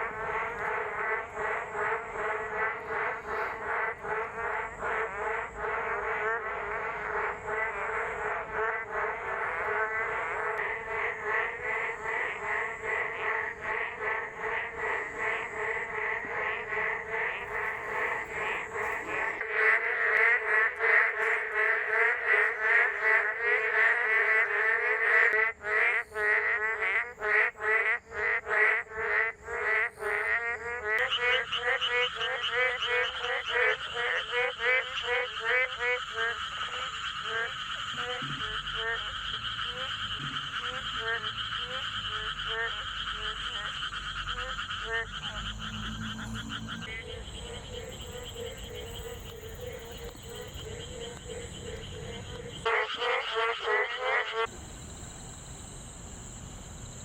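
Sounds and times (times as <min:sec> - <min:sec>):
frogs croaking in chorus: 0:00.0 - 0:57.0.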